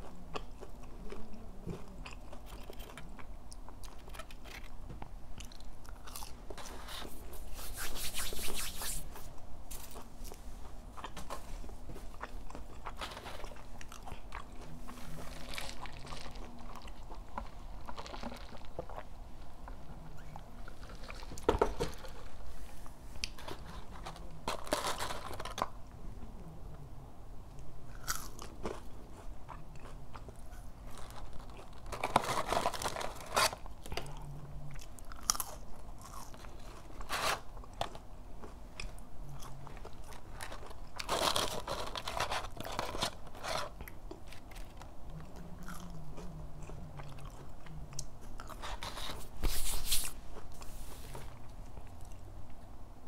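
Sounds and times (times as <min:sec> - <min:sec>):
crunching and chewing food: 0:00.0 - 0:07.6, 0:09.2 - 0:26.4, 0:27.5 - 0:52.7.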